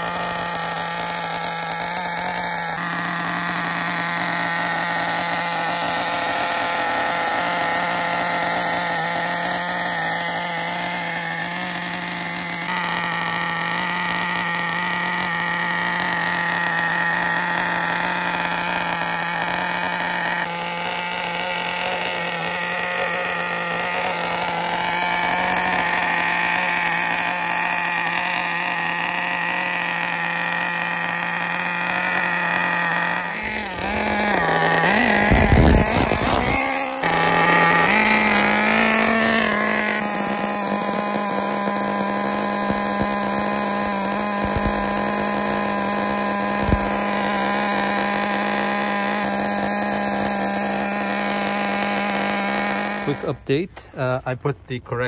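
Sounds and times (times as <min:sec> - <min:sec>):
small nitro engine idling: 0:00.0 - 0:55.0.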